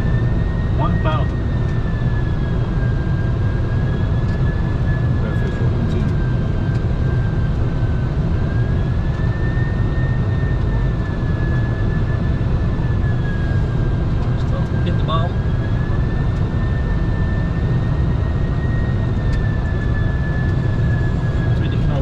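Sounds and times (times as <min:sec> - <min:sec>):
airflow and engine rush: 0:00.0 - 0:22.0.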